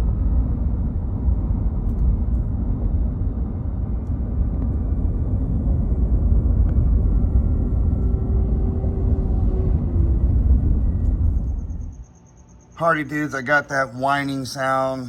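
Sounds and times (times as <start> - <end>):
truck engine rumbling: 0.0 - 12.1
faint pulley whine: 0.0 - 14.6.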